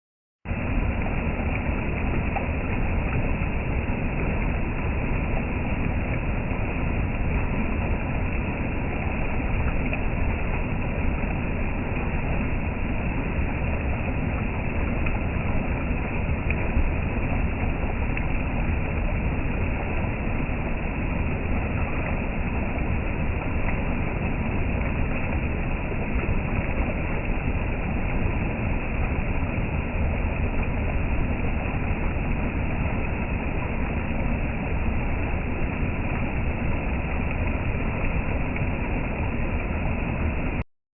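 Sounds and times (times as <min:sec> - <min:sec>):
creek rushing: 0:00.5 - 0:40.6
wind rumble on microphone: 0:00.5 - 0:40.6.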